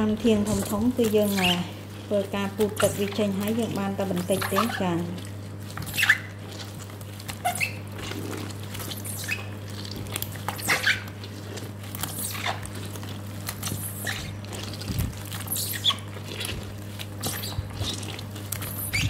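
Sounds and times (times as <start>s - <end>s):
steady low hum: 0.0s - 19.0s
wet squishing of stems: 0.0s - 19.0s.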